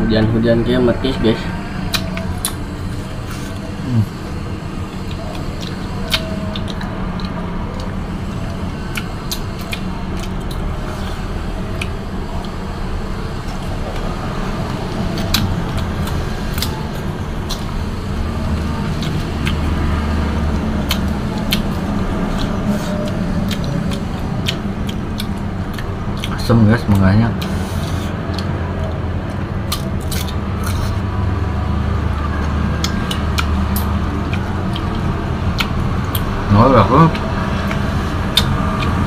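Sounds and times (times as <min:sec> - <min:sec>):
people biting and chewing fruit: 0:01.3 - 0:39.0.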